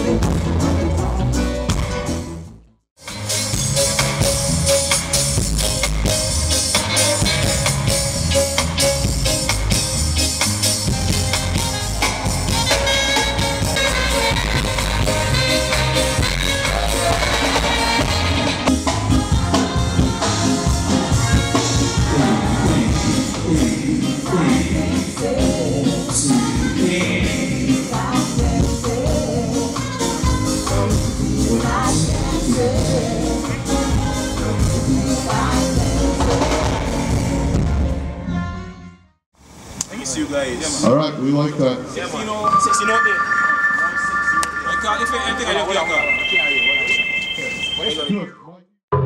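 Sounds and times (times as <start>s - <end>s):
reggae band playing: 0.0s - 2.4s, 3.0s - 38.4s, 41.8s - 47.9s.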